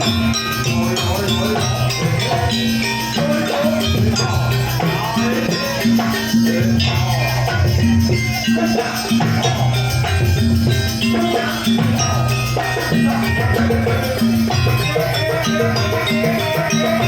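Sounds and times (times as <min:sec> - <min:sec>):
drum beat: 0:00.0 - 0:17.0
metal percussion notes: 0:00.0 - 0:17.0
wavering held melody: 0:00.0 - 0:17.0.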